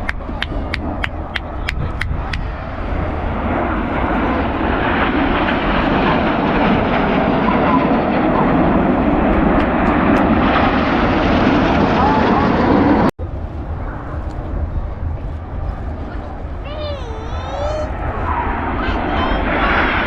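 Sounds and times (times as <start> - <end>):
jet roar: 0.0 - 20.0.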